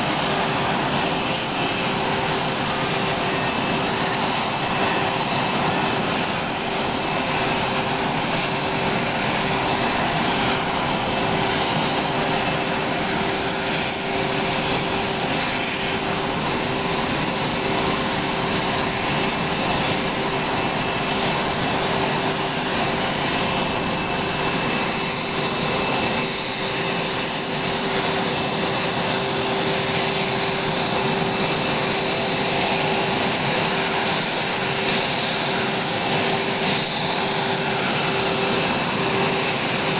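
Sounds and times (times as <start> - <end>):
jet turbine engines whining: 0.0 - 39.9.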